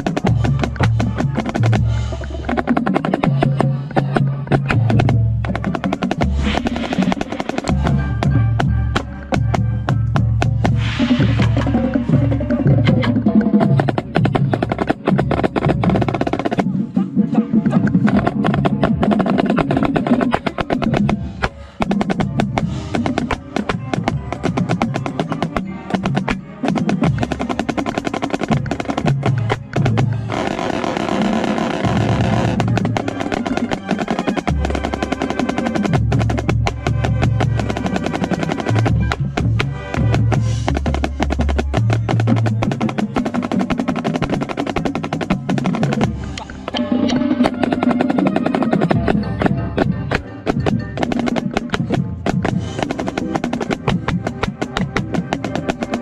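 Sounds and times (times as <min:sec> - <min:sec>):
bass drums: 0:00.0 - 0:16.7, 0:17.7 - 0:56.0
snare drum strokes and rolls: 0:00.0 - 0:17.0, 0:17.6 - 0:56.0
marching band brass: 0:00.0 - 0:56.0.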